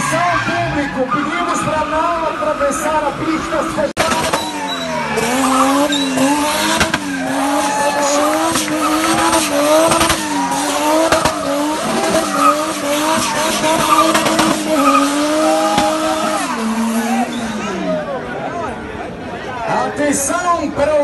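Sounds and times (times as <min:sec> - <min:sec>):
tyre squeal and skid: 0:00.0 - 0:18.2
car engine revving: 0:00.0 - 0:18.4.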